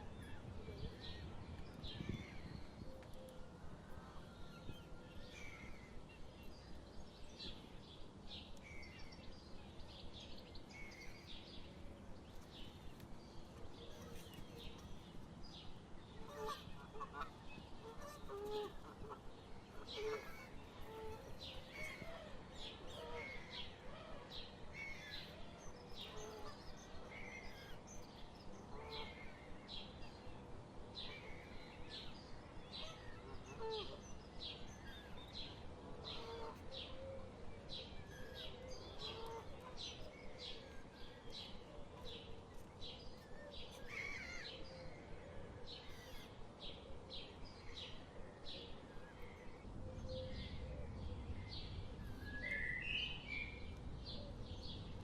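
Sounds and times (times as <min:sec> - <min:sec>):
faint outdoor background noise: 0:00.0 - 0:55.0.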